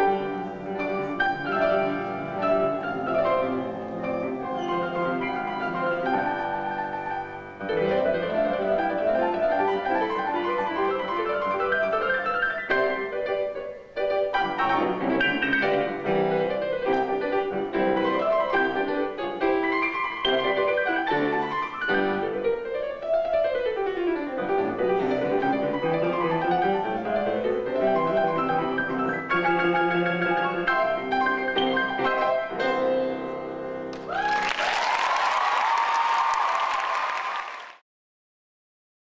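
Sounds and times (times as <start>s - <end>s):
grand piano duet: 0.0s - 37.6s.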